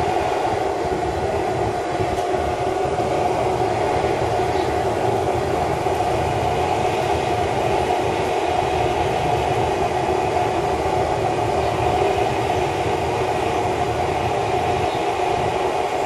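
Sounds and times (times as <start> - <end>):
forge burner roaring: 0.0 - 16.0.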